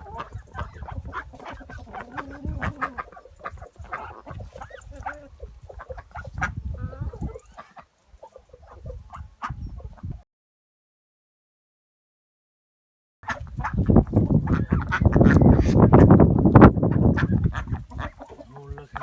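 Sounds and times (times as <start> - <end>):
ducks and poultry calling: 0.0 - 10.2, 13.2 - 19.0.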